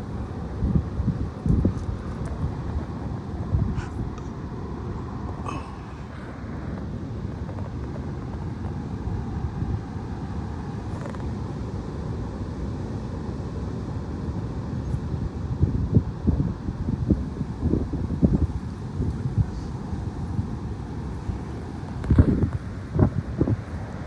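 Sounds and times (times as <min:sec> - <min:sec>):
strong wind on microphone: 0:00.0 - 0:12.8, 0:13.9 - 0:24.0.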